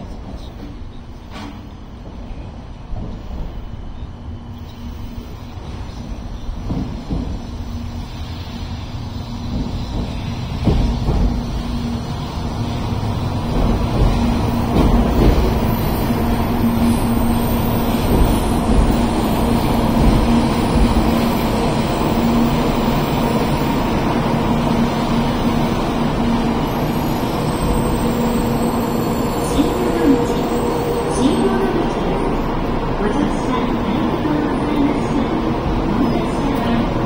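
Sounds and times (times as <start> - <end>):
train rumbling at platform: 0.0 - 37.0.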